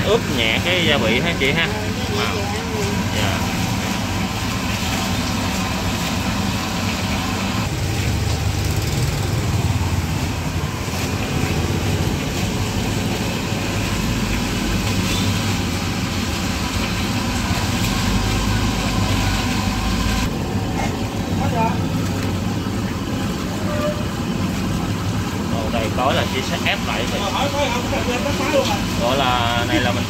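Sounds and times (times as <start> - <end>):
electric grinding mortar humming: 0.0 - 25.5.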